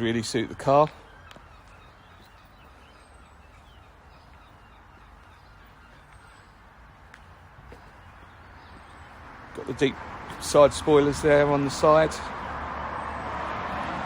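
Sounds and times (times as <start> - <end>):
distant birds chirping: 0.0 - 14.0
faint outdoor background noise: 0.0 - 14.0.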